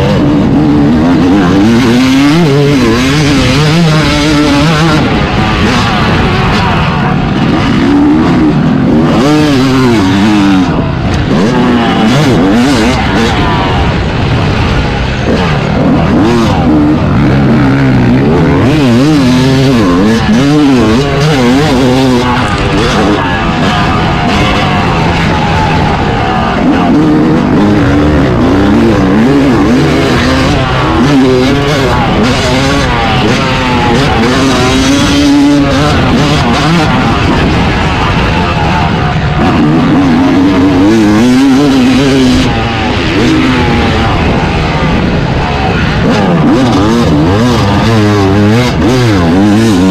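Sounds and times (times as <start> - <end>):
motocross engine revving: 0.0 - 49.9.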